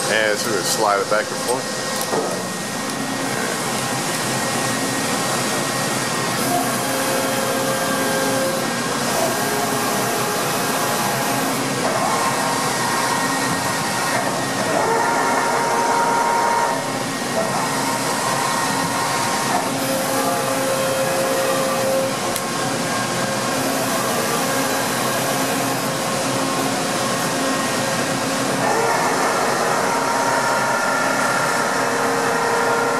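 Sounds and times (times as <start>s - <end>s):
lathe whirring hum: 0.0s - 32.9s.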